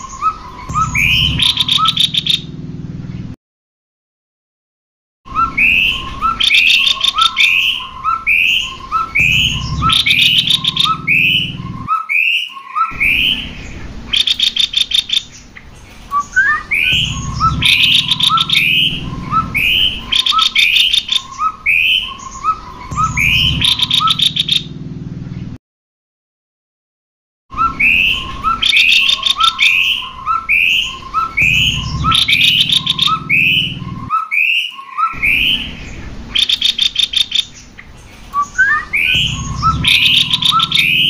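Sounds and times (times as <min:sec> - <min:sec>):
birds singing and chattering trills: 0:00.0 - 0:03.4, 0:05.3 - 0:25.6, 0:27.5 - 0:41.0
low rumble: 0:00.0 - 0:03.4, 0:05.3 - 0:11.9, 0:13.0 - 0:25.6, 0:27.6 - 0:34.1, 0:35.2 - 0:41.0.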